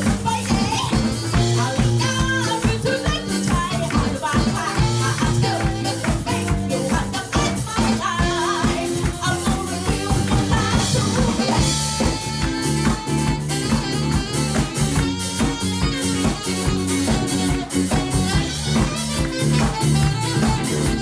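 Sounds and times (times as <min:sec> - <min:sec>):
live rock band playing: 0:00.0 - 0:21.0
steady drum beat: 0:00.0 - 0:21.0.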